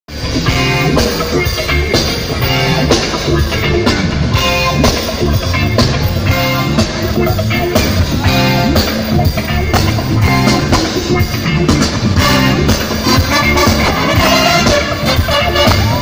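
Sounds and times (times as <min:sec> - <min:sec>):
live funk band playing: 0:00.1 - 0:16.0.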